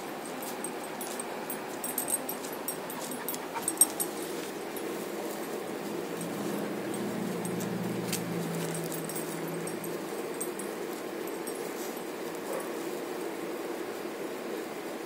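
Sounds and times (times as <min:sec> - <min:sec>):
grass rustling and clicking: 0:00.4 - 0:13.5.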